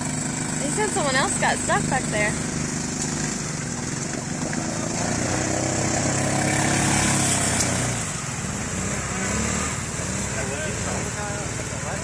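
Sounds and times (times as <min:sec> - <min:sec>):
utility vehicle engine running: 0:00.0 - 0:12.0
vehicle wading through water: 0:00.0 - 0:12.0.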